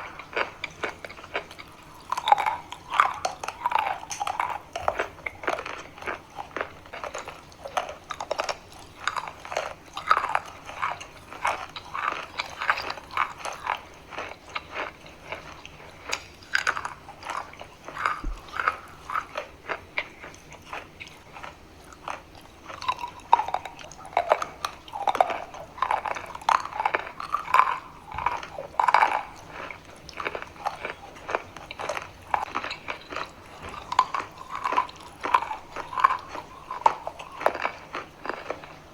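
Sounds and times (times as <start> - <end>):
chalk crunching while chewed: 0.0 - 38.9.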